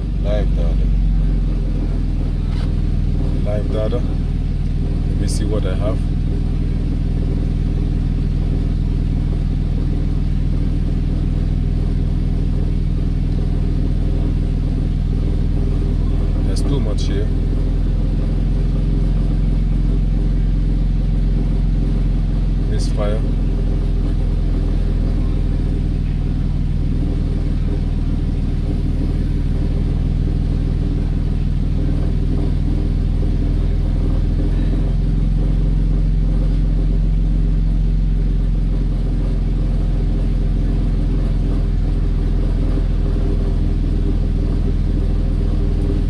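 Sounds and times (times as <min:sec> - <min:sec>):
misfiring car engine running: 0:00.0 - 0:46.0.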